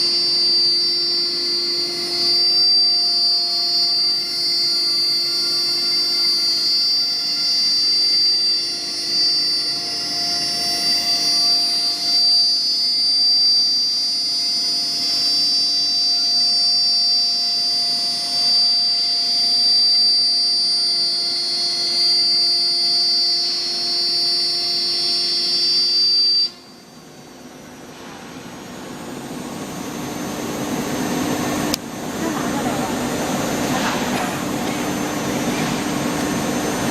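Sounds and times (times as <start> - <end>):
router spindle motor whine: 0.0 - 36.9.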